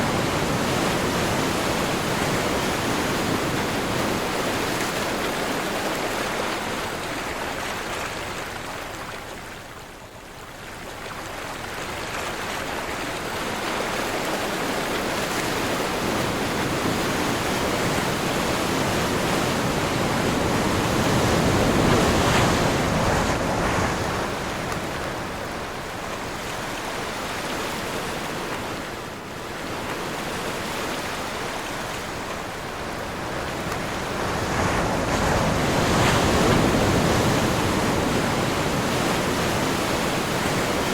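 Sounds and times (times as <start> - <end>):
ocean waves rushing: 0.0 - 8.8, 12.6 - 40.9
wind: 0.0 - 40.9.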